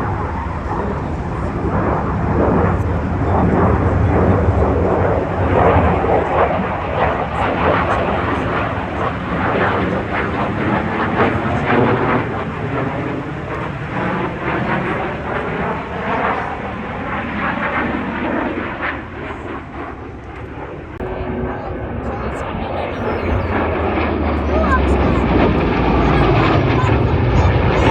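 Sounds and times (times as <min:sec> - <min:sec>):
airplane engine roar: 0:00.0 - 0:27.9.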